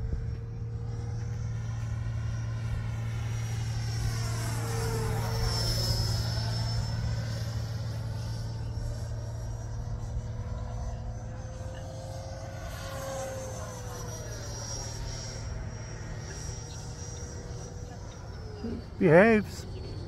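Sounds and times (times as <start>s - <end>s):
model jet whining in flight: 0.0s - 20.0s
steady low drone: 0.0s - 20.0s.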